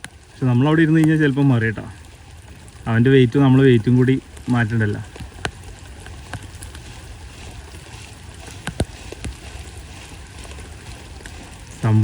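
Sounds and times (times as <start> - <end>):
rain falling on water: 0.0 - 12.0.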